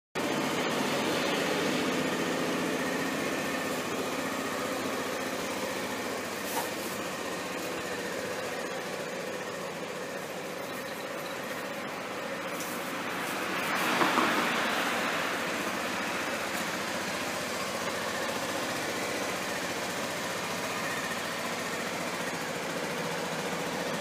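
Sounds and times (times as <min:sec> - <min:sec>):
scooter engine idling: 0:00.2 - 0:24.0.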